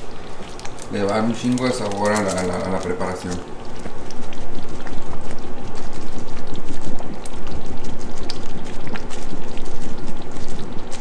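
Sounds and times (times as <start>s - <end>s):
thick sauce bubbling: 0.0s - 11.0s.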